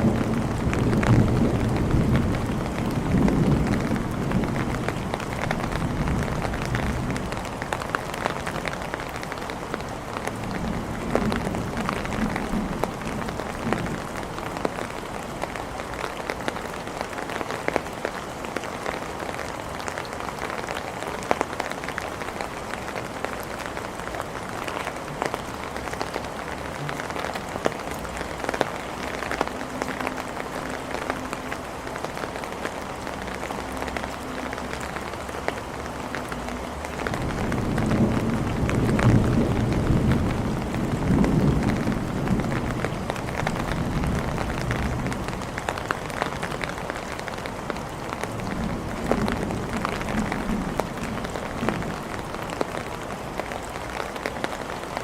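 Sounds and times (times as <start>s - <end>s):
heavy rain falling: 0.0s - 55.0s
raindrops ticking on hard surfaces: 0.0s - 55.0s.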